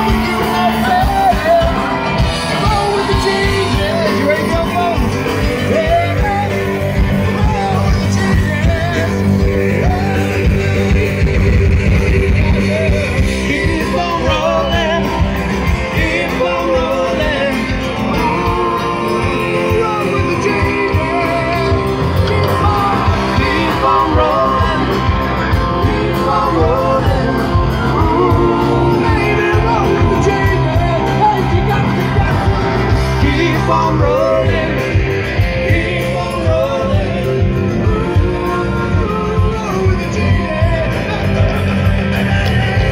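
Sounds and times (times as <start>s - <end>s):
rock music with singer: 0.0s - 42.9s.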